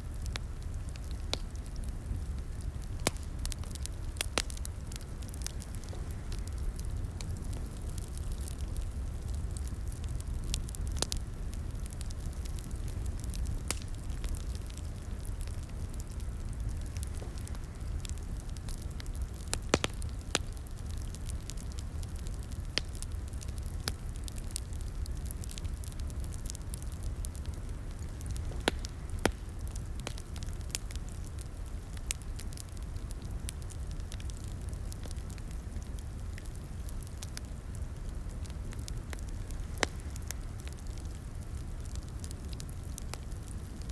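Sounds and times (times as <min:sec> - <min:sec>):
fire popping and snapping: 0:00.0 - 0:43.9
wood fire crackling: 0:00.0 - 0:43.9.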